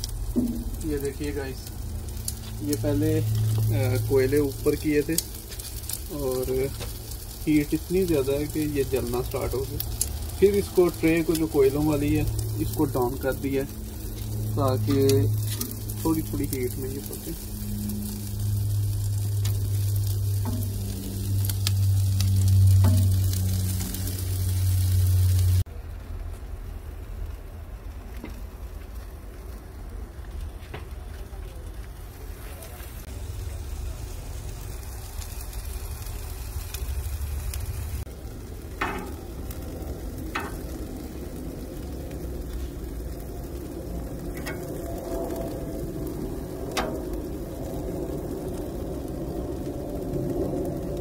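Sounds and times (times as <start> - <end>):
chicken sizzling on grill: 0.0 - 51.0
low rumble: 0.0 - 51.0
steady low hum: 0.0 - 51.0.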